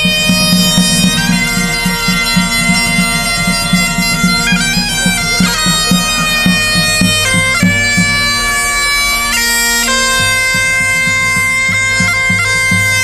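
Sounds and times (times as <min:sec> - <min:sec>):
bagpipes playing marching tune: 0:00.0 - 0:13.0
drum beating: 0:00.0 - 0:13.0.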